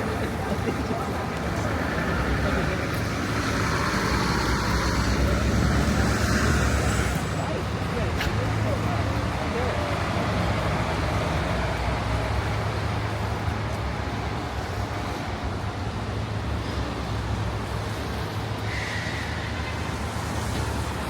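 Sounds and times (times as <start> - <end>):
vehicles rumbling: 0.0 - 21.0.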